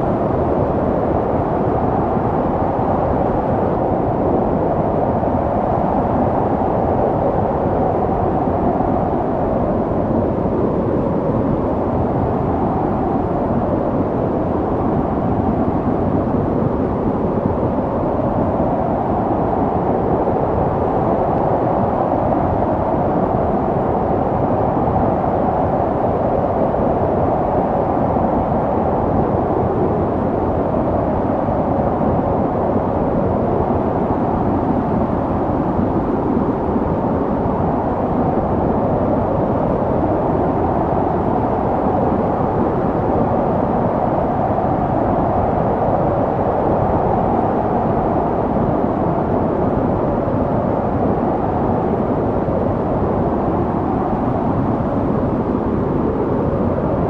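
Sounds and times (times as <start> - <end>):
snowstorm wind blowing: 0.0 - 57.0.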